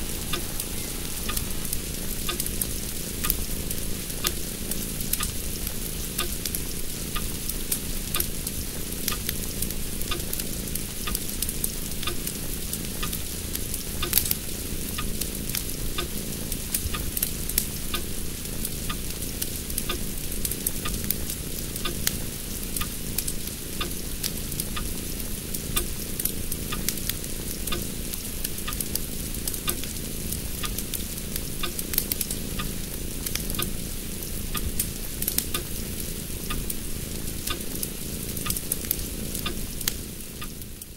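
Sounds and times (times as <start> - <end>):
crackling hiss: 0.0 - 40.9.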